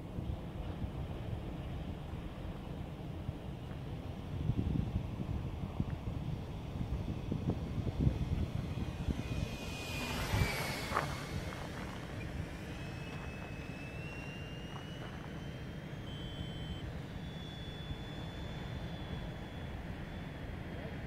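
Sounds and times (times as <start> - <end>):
wind rumbling on microphone: 0.0 - 20.9
model jet whining: 0.2 - 21.0.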